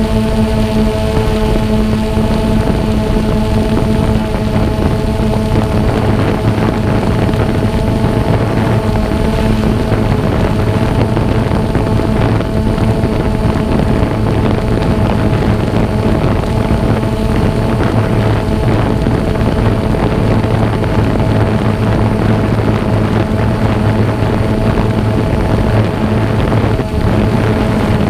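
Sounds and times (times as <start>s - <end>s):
drone propellers humming: 0.0s - 28.0s
wind noise: 0.0s - 28.0s.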